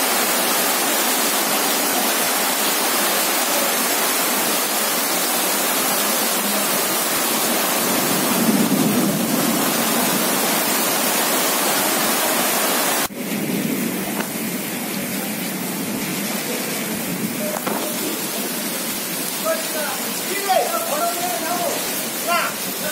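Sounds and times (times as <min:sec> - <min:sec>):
heavy rain pouring on ground: 0:00.0 - 0:22.9.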